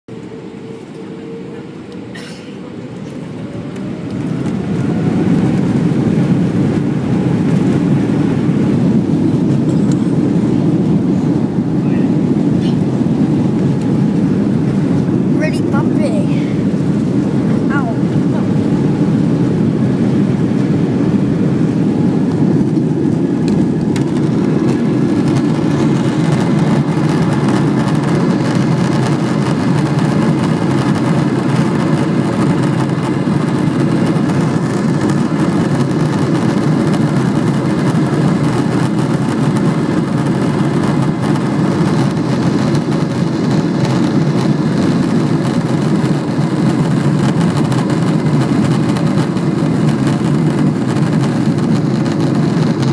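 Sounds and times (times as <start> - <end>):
aircraft engines rumbling: 0.1 - 52.9
faint engine whine: 0.1 - 52.9.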